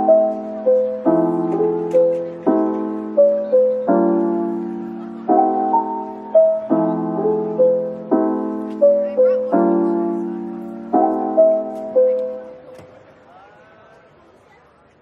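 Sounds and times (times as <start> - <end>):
soft piano music: 0.0 - 12.8.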